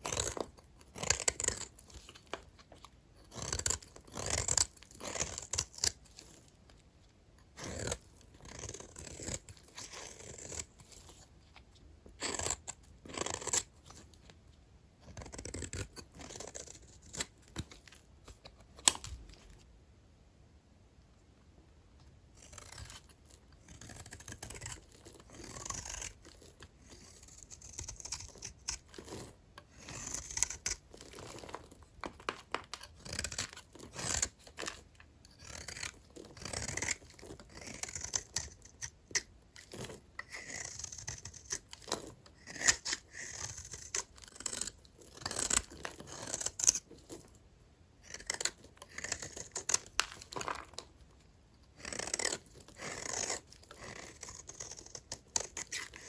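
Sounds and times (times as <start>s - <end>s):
knife cutting dry soap: 0.0s - 6.7s, 7.4s - 14.3s, 15.0s - 19.3s, 22.4s - 47.4s, 48.0s - 51.1s, 51.7s - 56.0s.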